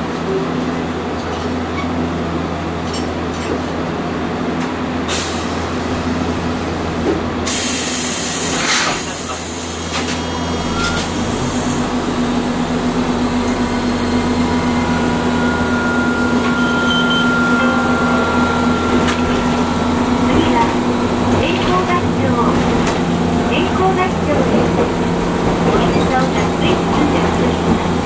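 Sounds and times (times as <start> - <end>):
tram running noise: 0.0 - 28.0.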